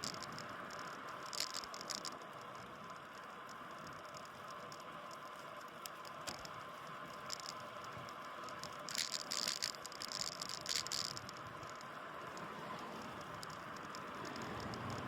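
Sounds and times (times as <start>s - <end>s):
bike rattling over bumps: 0.0s - 15.0s
tyre and wind hiss: 0.0s - 15.0s.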